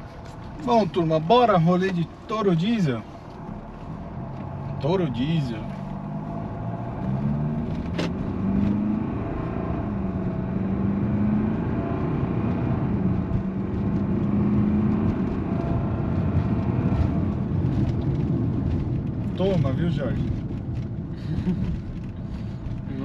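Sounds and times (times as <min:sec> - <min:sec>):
diesel pickup engine accelerating: 0:00.0 - 0:23.0.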